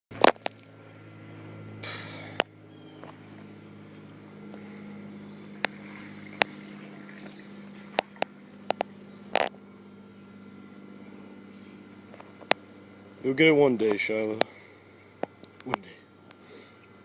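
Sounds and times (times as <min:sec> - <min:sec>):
vehicle engine humming: 0:00.1 - 0:17.0.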